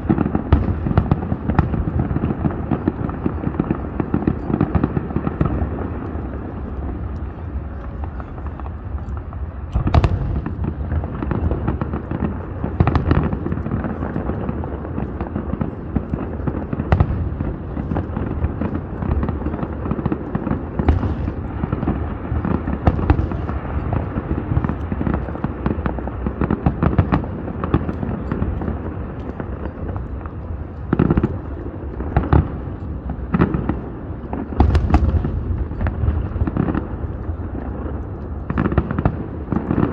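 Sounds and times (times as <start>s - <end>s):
continuous low rumble: 0.0s - 39.9s
fireworks booming: 0.0s - 39.9s
loud firework bangs: 0.0s - 39.9s.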